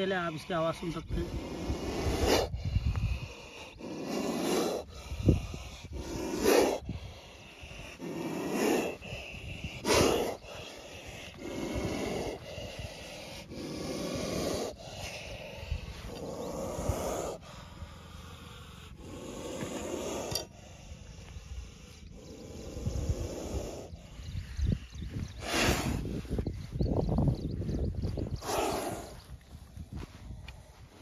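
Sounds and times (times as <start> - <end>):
snake hissing: 0.0 - 27.3, 28.2 - 31.0.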